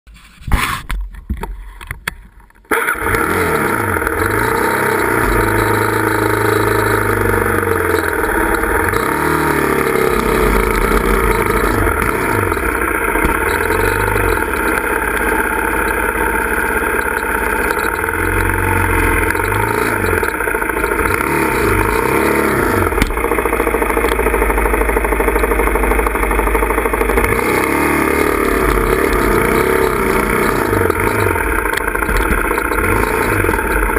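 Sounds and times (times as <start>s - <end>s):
dirt bike engine revving: 2.7s - 33.9s.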